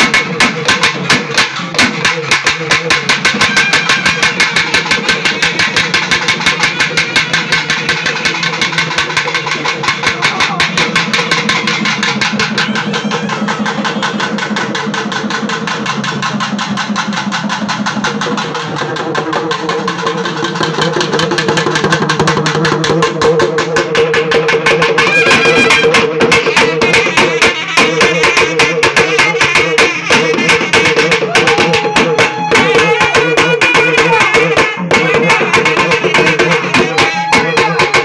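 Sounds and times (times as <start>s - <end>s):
fast even drumbeats: 0.0s - 38.0s.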